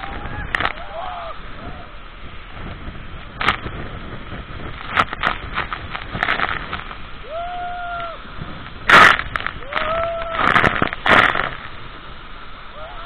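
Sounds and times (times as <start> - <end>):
water splashing on microphone: 0.0 - 13.0
waterfall pouring and splashing: 0.0 - 13.0.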